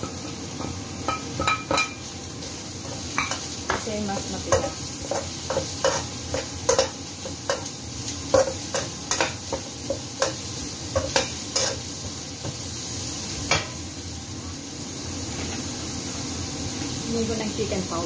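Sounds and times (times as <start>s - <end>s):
vegetables sizzling: 0.0s - 18.0s.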